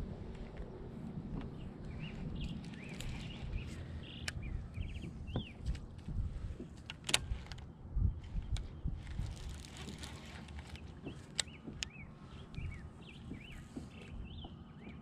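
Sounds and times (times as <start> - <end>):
low handling rumble: 0.0 - 15.0
small birds chirping: 1.4 - 6.8, 7.7 - 15.0.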